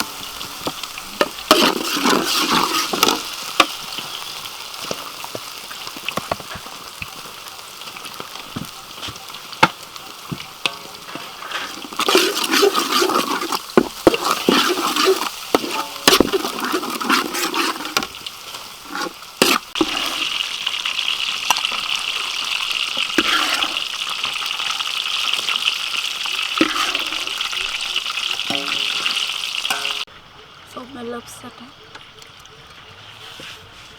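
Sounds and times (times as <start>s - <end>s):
food sizzling in hot oil: 0.0s - 32.6s.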